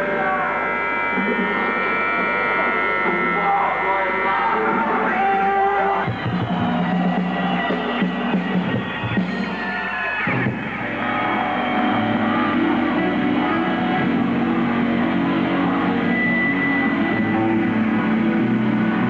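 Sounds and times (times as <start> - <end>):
electric guitar: 0.0 - 19.0
live rock band playing: 0.0 - 19.0.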